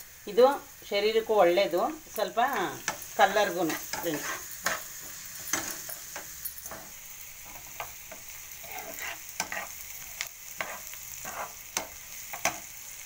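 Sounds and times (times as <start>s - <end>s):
vegetables sizzling in oil: 0.0s - 13.0s
spoon scraping pan: 1.7s - 12.7s.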